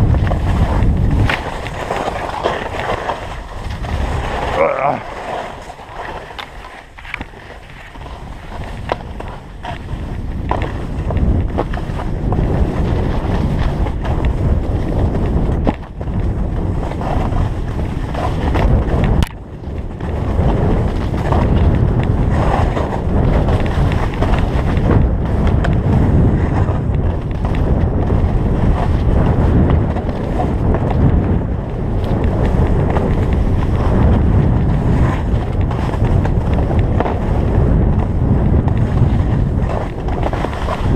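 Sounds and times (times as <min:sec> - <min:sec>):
skis running over snow: 0:00.0 - 0:40.9
wind rumbling on microphone: 0:00.0 - 0:40.9.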